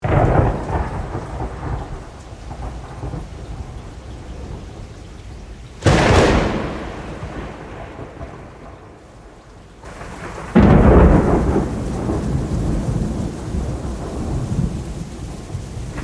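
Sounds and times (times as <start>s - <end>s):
loud thunderclap: 0.0s - 16.0s
steady rain: 0.0s - 16.0s
thunder rumbling: 0.0s - 16.0s.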